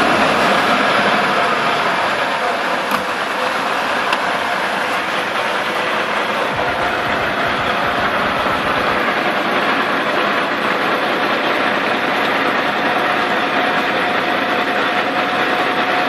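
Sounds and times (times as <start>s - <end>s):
diesel truck engine running: 0.0s - 16.0s
faint steady whine: 0.0s - 16.0s.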